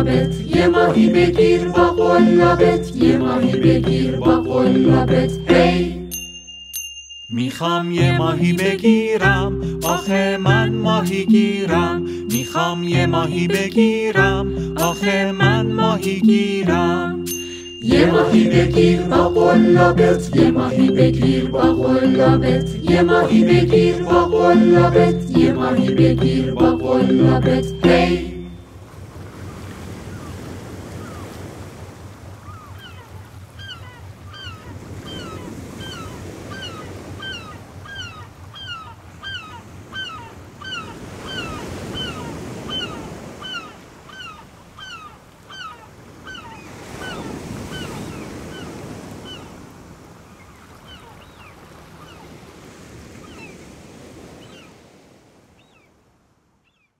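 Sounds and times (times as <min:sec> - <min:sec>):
waves washing in: 0:00.0 - 0:06.2, 0:07.4 - 0:55.6.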